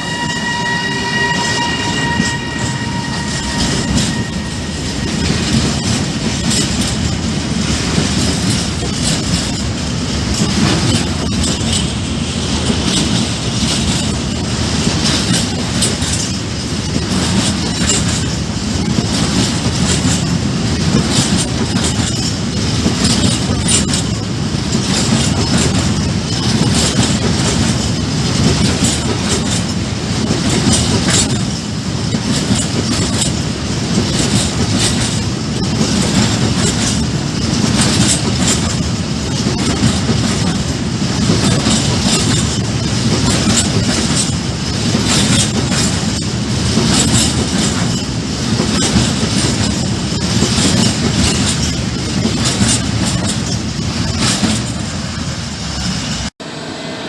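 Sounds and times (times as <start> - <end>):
freight train wagons rumbling: 0.0 - 56.8
wheels clacking over rail joints: 5.0 - 56.3.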